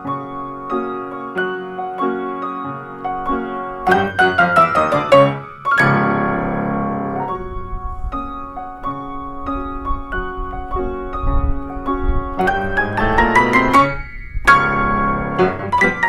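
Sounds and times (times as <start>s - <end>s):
solo ragtime piano: 0.0s - 16.0s.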